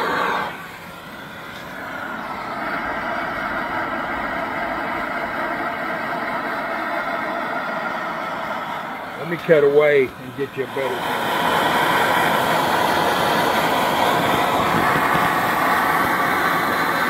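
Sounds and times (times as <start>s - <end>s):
camping stove hissing: 0.0s - 17.0s.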